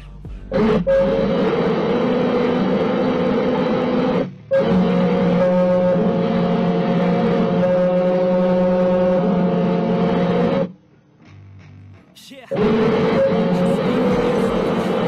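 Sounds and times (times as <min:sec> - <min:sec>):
electric boat motor humming: 0:00.5 - 0:10.8, 0:12.5 - 0:15.0.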